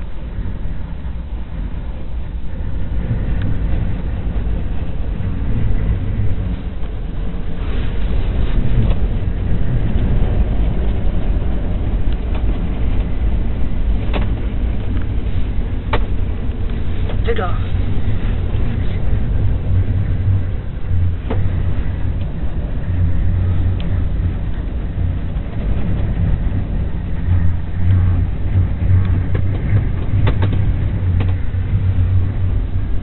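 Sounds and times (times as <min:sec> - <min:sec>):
wind buffeting car: 0:00.0 - 0:33.0.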